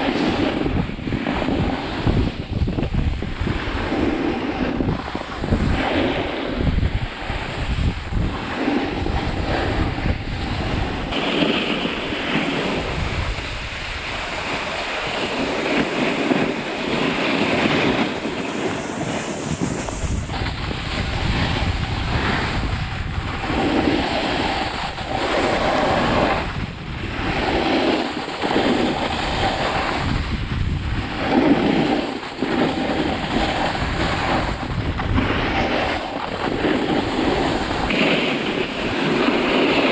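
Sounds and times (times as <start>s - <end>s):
snowboard edges scraping snow: 0.0s - 39.9s
wind buffeting microphone: 0.0s - 39.9s.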